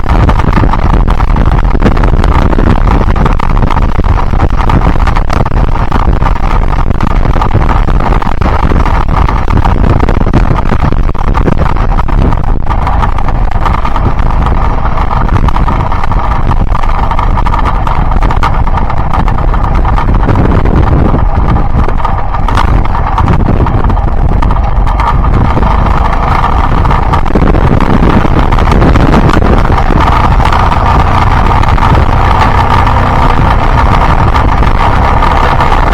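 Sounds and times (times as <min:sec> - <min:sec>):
motorcycle engine running: 0:00.0 - 0:35.9
wind rumble on microphone: 0:00.0 - 0:35.9.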